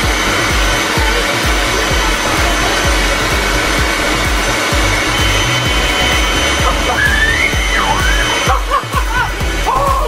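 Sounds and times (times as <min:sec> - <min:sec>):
leaf blower running: 0:00.0 - 0:10.0.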